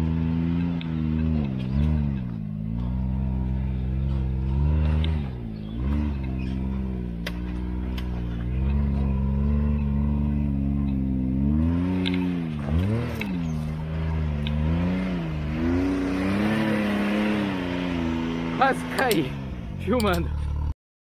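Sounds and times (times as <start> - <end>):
engine working hard: 0.0 - 20.7.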